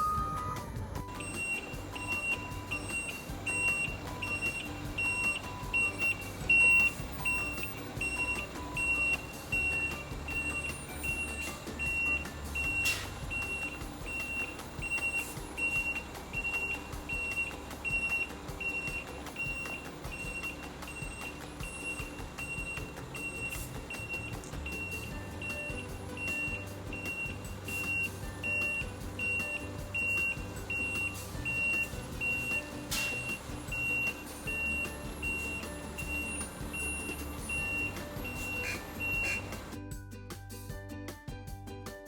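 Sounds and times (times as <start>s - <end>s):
low engine rumble: 0.0s - 39.8s
reversing alarm beeping: 0.0s - 39.8s.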